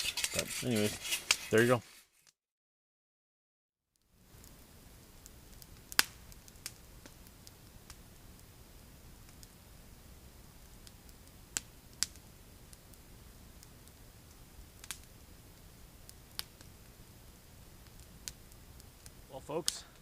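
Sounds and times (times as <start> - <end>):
campfire crackling: 0.0 - 2.2, 4.0 - 20.0
faint steady hiss: 4.0 - 20.0.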